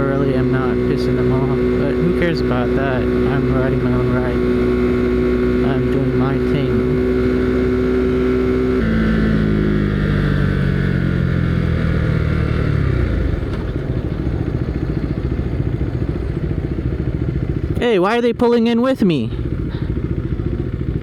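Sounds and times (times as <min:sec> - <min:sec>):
motorcycle engine slowing down: 0:00.0 - 0:21.0.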